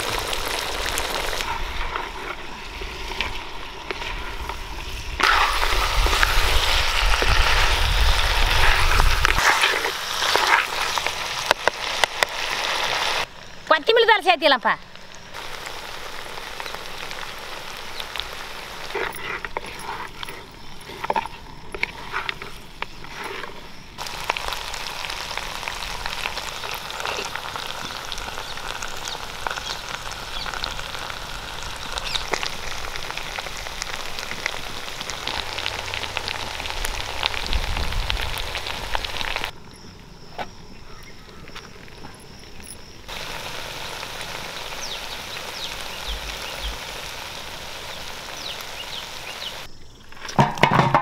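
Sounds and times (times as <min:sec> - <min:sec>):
meat frying with crackling: 0:00.0 - 0:14.3, 0:14.9 - 0:39.6, 0:41.3 - 0:49.7.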